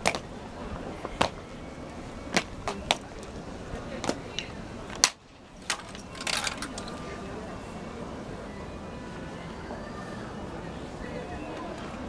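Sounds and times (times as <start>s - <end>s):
low murmur: 0.0s - 12.0s.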